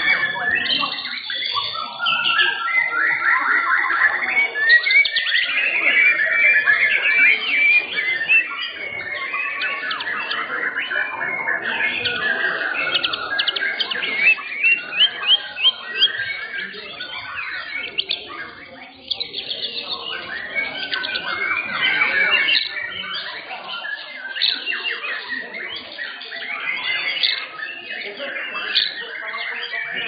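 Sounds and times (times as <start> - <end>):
birds singing whistles and chirps: 0.0 - 30.0
loud repeated rising bird notes: 0.0 - 30.0.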